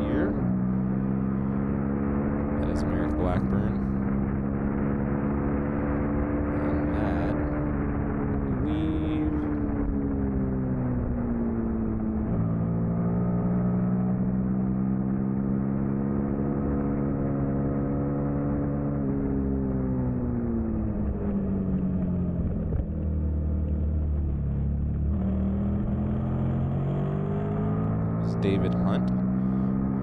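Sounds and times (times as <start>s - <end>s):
motorcycle engine revving: 0.0s - 20.3s, 23.8s - 30.0s.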